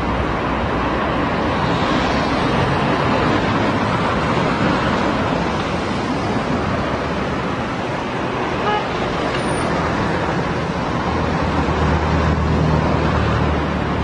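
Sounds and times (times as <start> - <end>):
city traffic passing: 0.0 - 14.0.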